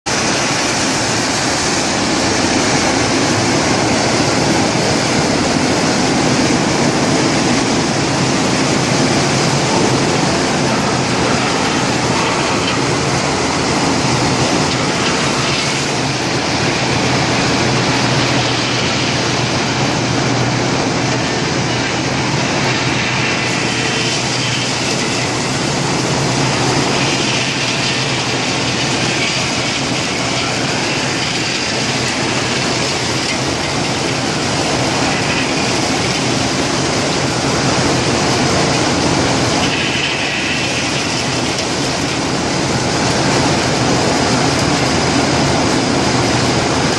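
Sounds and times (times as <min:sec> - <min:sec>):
wheel loader diesel engine: 0:00.0 - 0:46.9
wood chipper running: 0:00.0 - 0:46.9.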